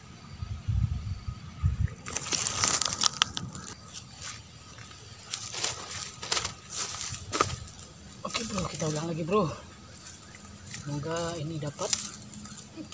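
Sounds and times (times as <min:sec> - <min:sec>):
dry grass crackling and rustling: 0:01.8 - 0:12.9.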